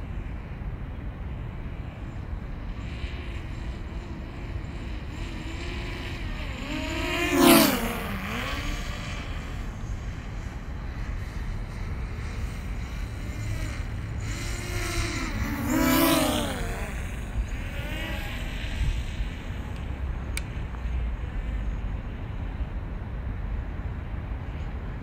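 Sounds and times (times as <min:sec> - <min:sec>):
low outdoor rumble: 0:00.0 - 0:25.0
passing motor: 0:01.6 - 0:21.8.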